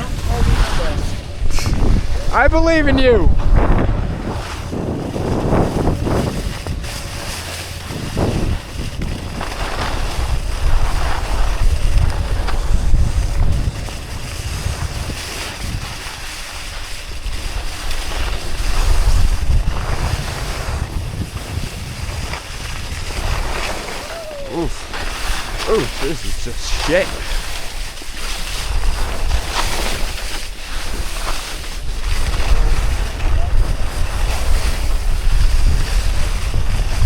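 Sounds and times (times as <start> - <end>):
skis scraping over snow: 0.0 - 37.0
wind buffeting microphone: 0.0 - 37.0.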